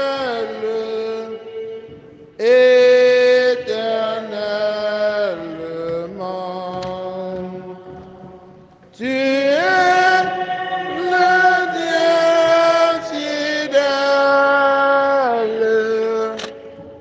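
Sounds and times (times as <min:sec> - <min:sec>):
person singing liturgical chant: 0:00.0 - 0:17.0.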